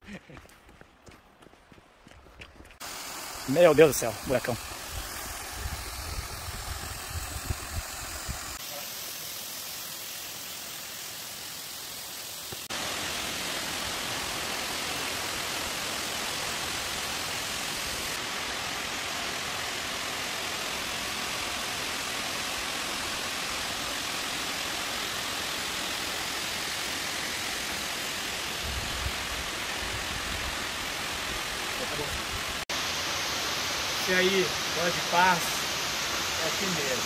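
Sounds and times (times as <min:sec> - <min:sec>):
waterfall rushing: 0:02.8 - 0:37.0.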